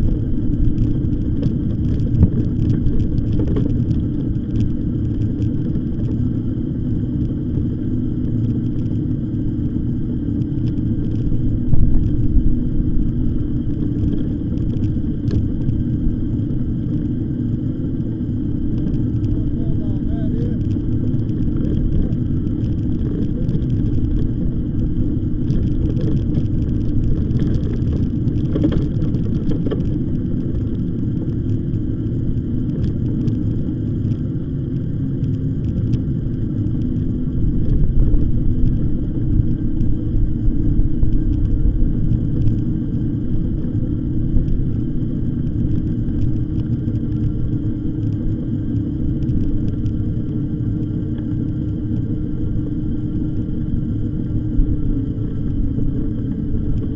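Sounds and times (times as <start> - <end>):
wind on microphone: 0.0 - 56.9.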